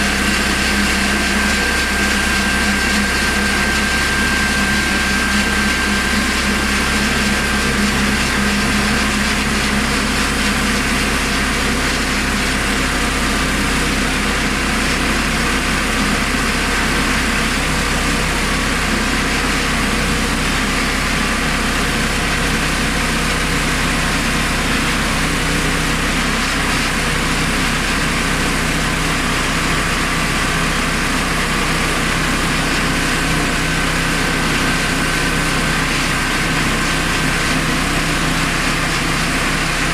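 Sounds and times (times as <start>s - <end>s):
petrol engine running steadily: 0.0s - 39.9s.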